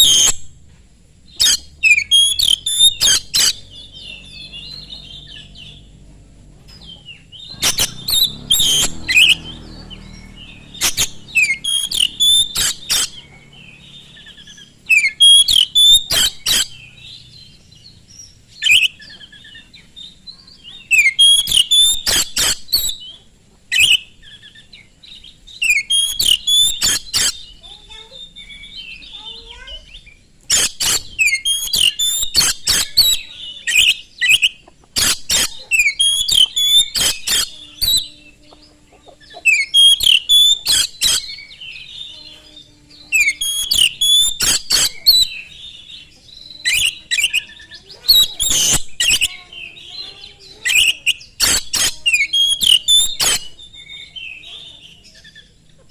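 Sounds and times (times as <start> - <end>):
songbird singing whistled phrases: 0.0 - 0.6, 1.3 - 6.0, 6.8 - 55.6
harsh clicking bird calls: 0.0 - 55.9.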